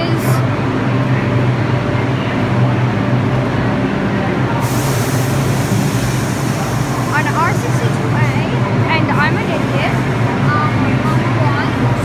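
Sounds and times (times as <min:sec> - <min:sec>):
train low hum: 0:00.0 - 0:12.0.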